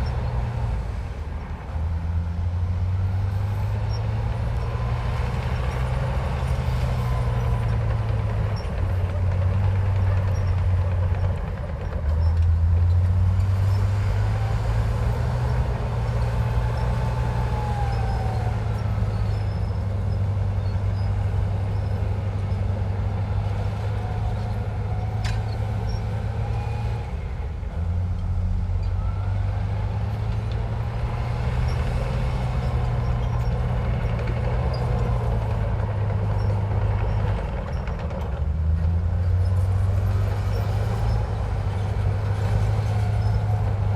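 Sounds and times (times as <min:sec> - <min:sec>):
heavy diesel engine under load: 0:00.0 - 0:43.9.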